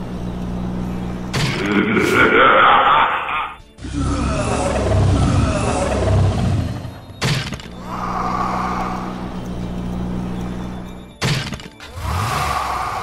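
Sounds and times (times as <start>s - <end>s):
spooky music: 0.0s - 13.0s.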